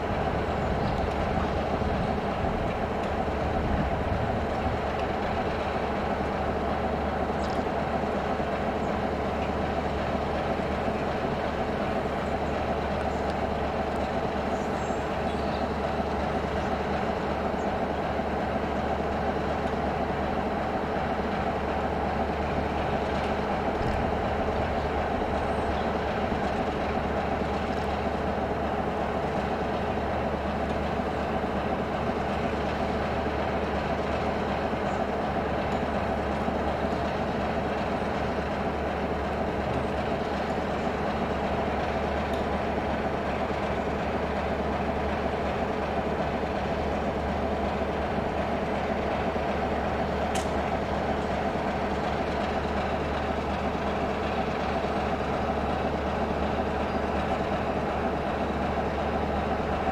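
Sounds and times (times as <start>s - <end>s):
locomotive diesel engine droning: 0.0s - 59.9s.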